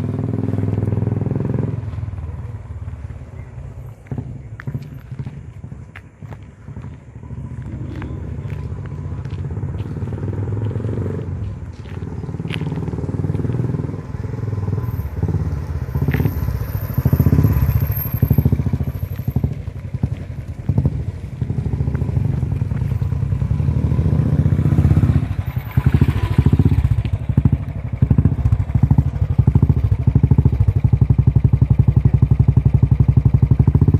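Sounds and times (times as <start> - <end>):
motorcycle engine exhaust beat: 0.0 - 33.9.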